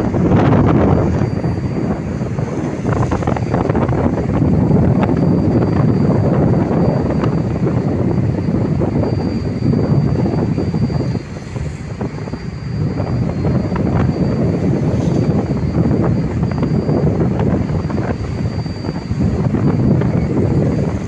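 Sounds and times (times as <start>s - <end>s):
boat diesel engine throbbing: 0.0s - 21.0s
wind buffeting microphone: 0.0s - 21.0s.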